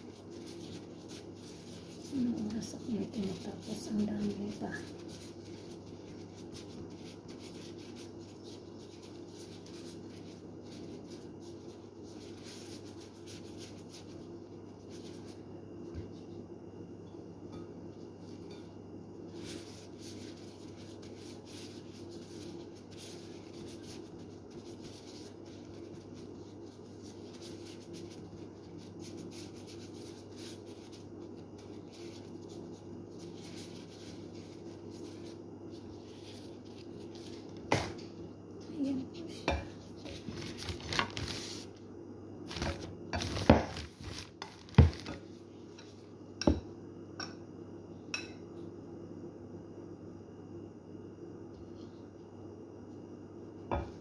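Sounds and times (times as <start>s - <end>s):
plastic gloves rustling: 0.0s - 16.4s, 17.9s - 41.8s, 42.4s - 46.1s
steady low hum: 0.0s - 54.0s.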